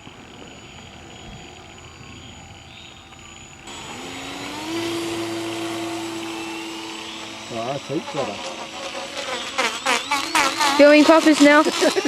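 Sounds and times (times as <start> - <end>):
model plane motor whine: 0.0 - 12.0.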